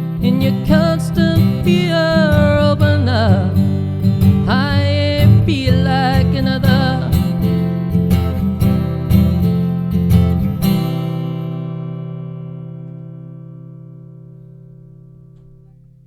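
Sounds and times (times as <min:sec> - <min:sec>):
acoustic guitar strumming: 0:00.0 - 0:16.0
guitar chord ringing: 0:00.0 - 0:16.0.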